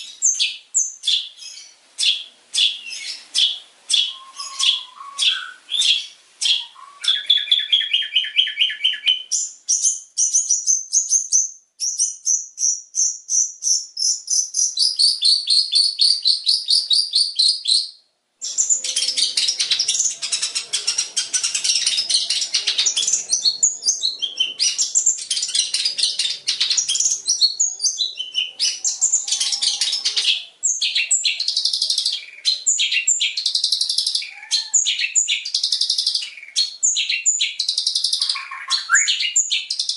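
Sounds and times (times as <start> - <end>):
shrike singing fast varied song: 0.0 - 39.9.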